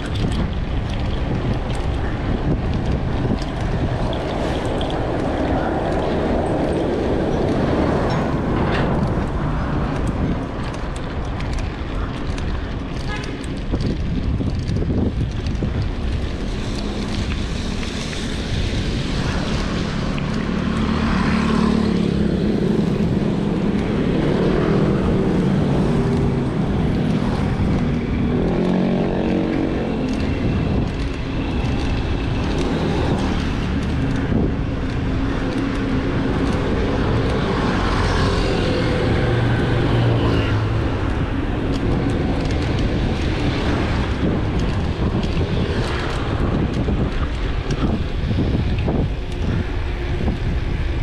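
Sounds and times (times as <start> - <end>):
road noise: 0.0 - 51.0
vehicle engines running: 0.0 - 51.0.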